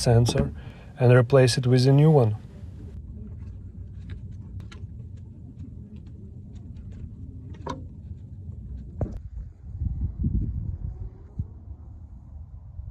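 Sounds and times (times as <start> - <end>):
low rumble: 0.0 - 12.9.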